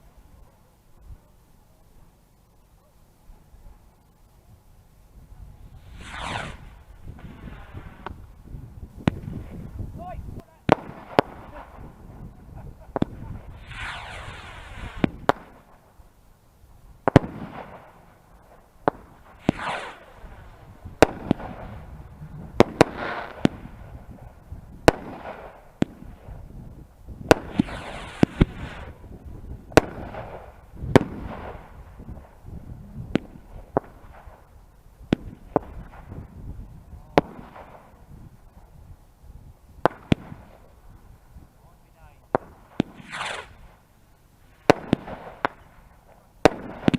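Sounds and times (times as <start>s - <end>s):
fireworks hissing sweeps: 3.5s - 46.9s
fireworks bangs: 5.3s - 15.9s, 17.0s - 38.9s, 39.6s - 43.8s, 44.5s - 46.9s.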